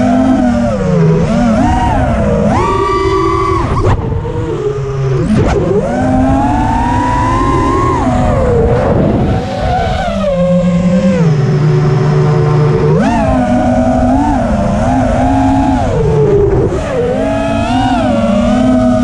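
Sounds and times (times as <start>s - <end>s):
drone motors whining: 0.0s - 19.0s
wind rush on microphone: 0.0s - 19.0s.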